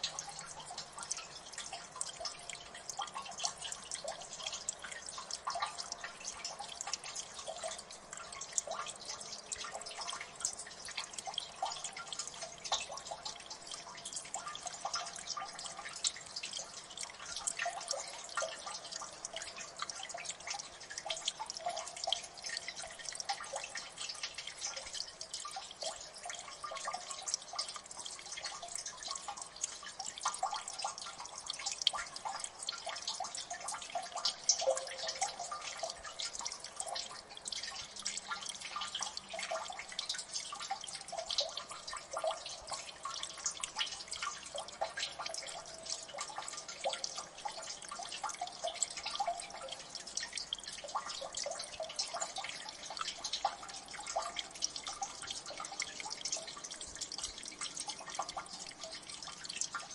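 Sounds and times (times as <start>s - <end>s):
faint running water: 0.0s - 59.9s
water dripping: 0.0s - 59.9s.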